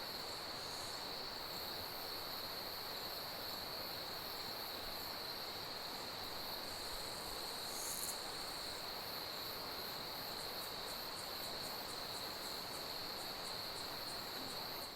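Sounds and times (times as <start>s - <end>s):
crickets trilling: 0.0s - 14.9s
insect chirping: 0.0s - 14.9s.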